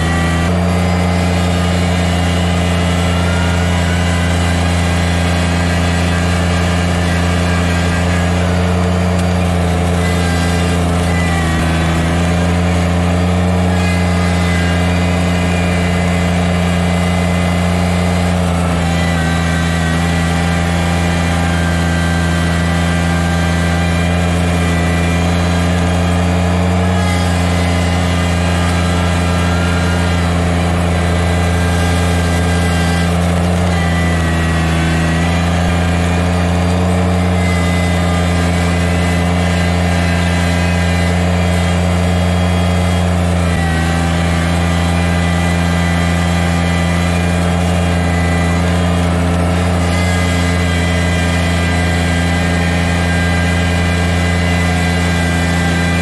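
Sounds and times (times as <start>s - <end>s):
diesel tractor engine running: 0.0s - 56.0s
loader bucket pushing snow: 0.0s - 56.0s.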